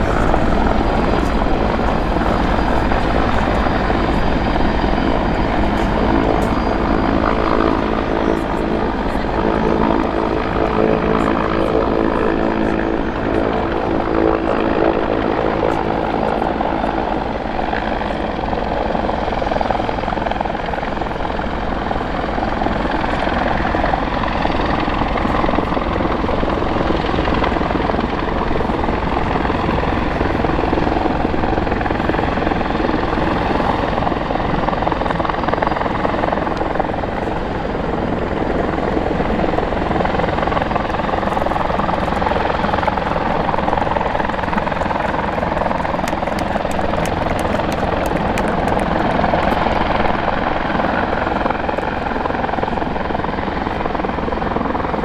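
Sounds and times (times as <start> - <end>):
helicopter rotor and turbine noise: 0.0 - 55.0.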